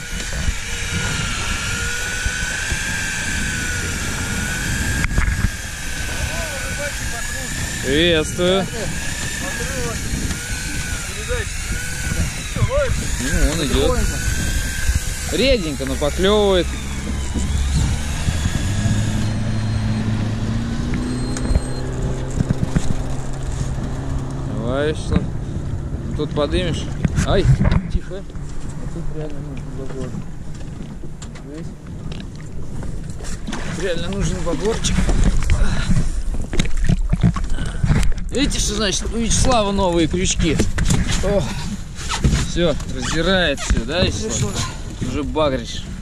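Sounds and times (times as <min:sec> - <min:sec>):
boat motor running: 0:00.0 - 0:46.0.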